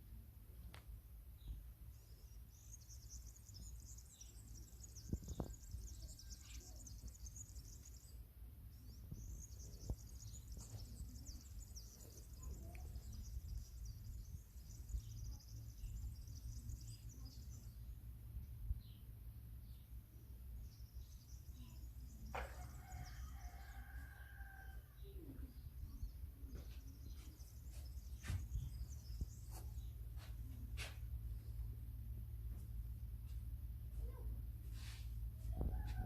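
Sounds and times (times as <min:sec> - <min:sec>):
steady low rumble: 0:00.0 - 0:22.8, 0:24.8 - 0:36.0
small birds chirping: 0:00.6 - 0:36.0.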